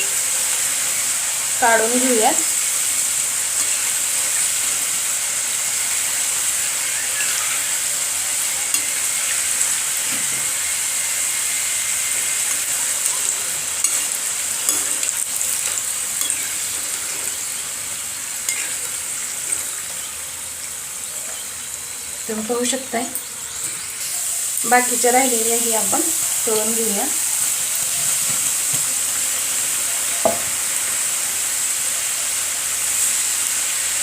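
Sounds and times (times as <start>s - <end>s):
dough sizzling in hot oil: 0.0s - 34.0s.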